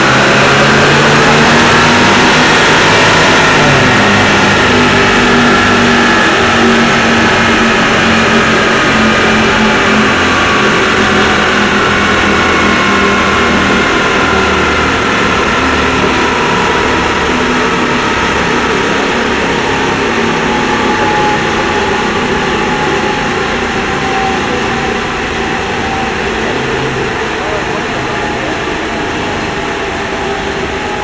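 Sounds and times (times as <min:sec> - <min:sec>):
car engine on dynamometer rollers: 0:00.0 - 0:31.0.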